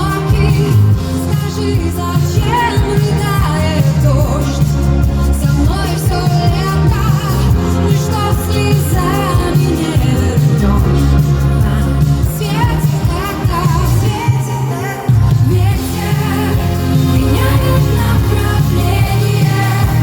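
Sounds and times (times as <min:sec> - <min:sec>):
pop song with singing: 0:00.0 - 0:20.0.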